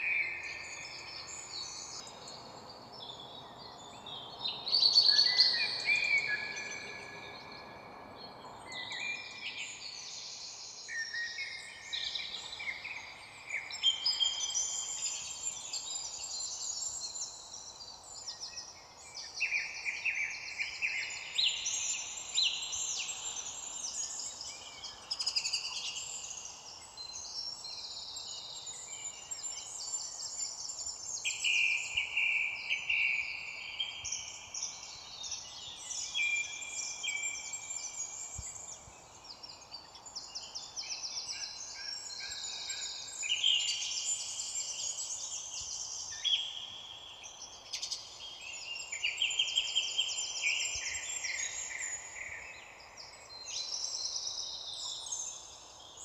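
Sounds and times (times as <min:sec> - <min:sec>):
faint steady hiss: 0:00.0 - 0:56.0
songbirds singing: 0:00.0 - 0:56.0.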